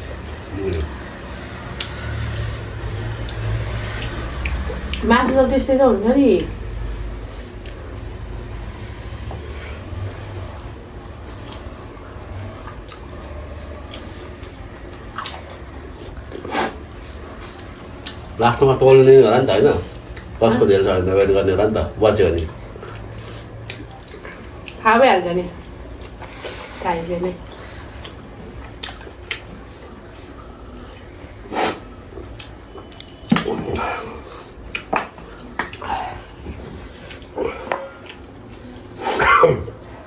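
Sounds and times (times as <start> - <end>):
people chewing chicken: 0.0 - 5.0, 6.6 - 24.8, 25.5 - 26.8, 27.4 - 40.0.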